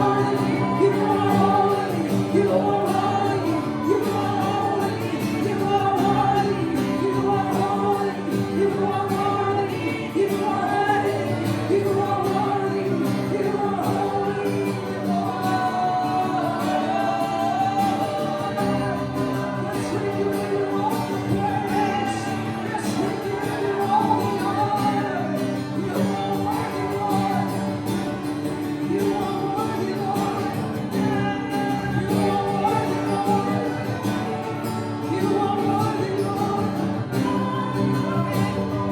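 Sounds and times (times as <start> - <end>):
worship singing with accompaniment: 0.0 - 38.9.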